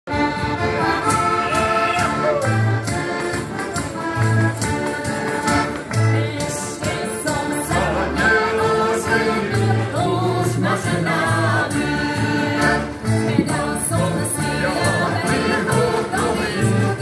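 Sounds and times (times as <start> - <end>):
button accordions playing folk tune: 0.1 - 17.0.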